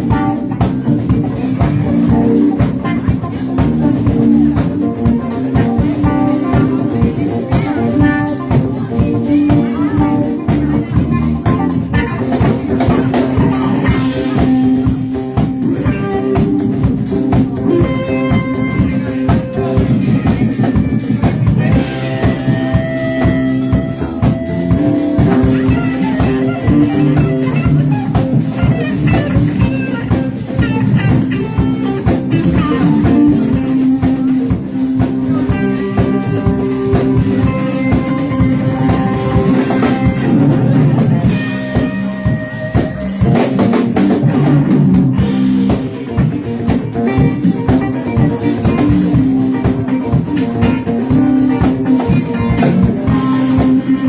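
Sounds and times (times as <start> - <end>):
bass guitar low notes: 0.0 - 54.0
drum kit steady beat: 0.0 - 54.0
electric guitar lines: 0.0 - 54.0.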